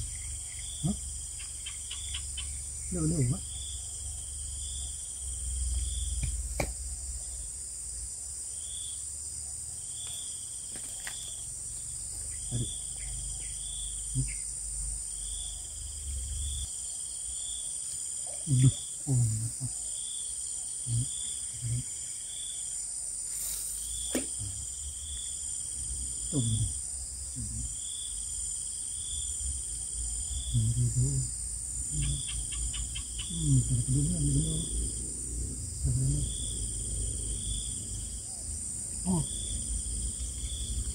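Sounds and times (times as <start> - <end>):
insect chirps: 0.0 - 40.9
insect high drone: 0.0 - 40.9.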